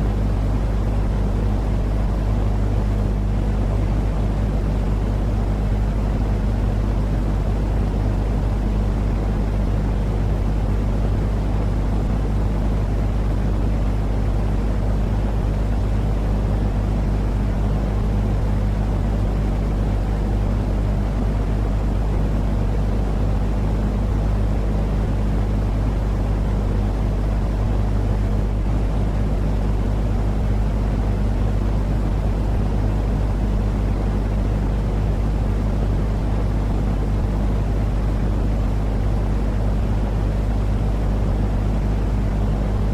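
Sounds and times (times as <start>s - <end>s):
low rumbling white noise: 0.0s - 42.9s.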